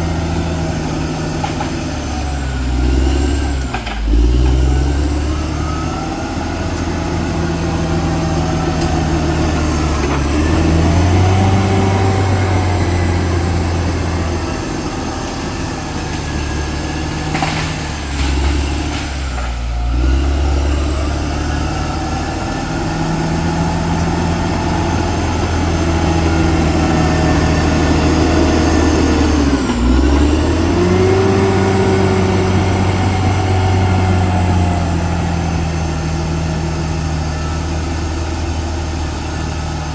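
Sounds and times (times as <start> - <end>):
bulldozer diesel engine working hard: 0.0 - 39.9.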